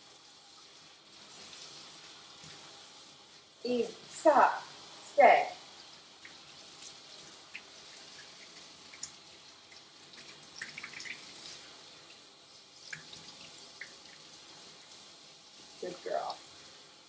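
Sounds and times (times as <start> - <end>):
water dripping and splashing: 0.0 - 17.0.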